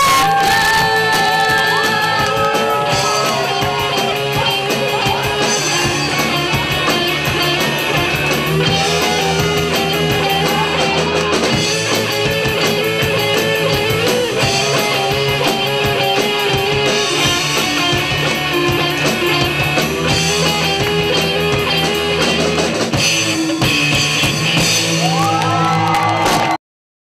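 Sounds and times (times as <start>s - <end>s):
rock band playing: 0.0s - 26.6s.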